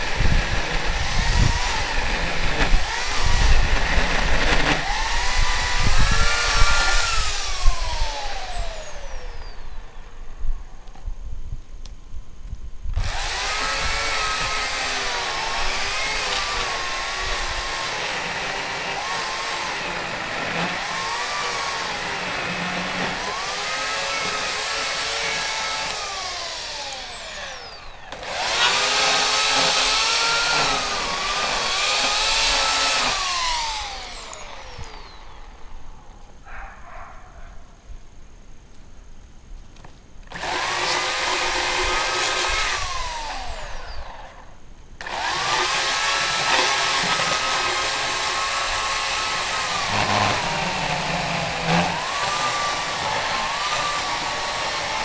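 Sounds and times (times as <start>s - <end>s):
electric chainsaw cutting wood: 0.0s - 10.0s, 12.9s - 35.8s, 40.3s - 55.0s.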